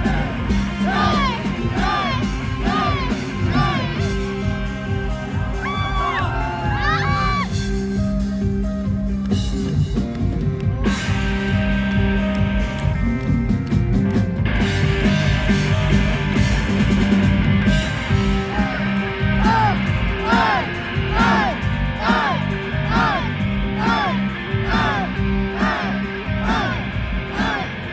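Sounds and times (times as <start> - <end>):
drum kit: 0.0 - 27.9
electric guitars: 0.0 - 27.9.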